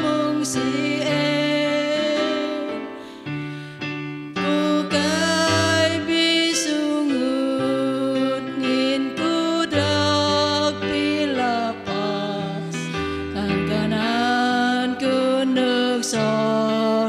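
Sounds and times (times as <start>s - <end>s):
women singing a hymn: 0.0s - 2.9s, 4.4s - 7.2s, 8.1s - 12.8s, 13.4s - 17.0s
instrumental accompaniment: 0.0s - 17.0s.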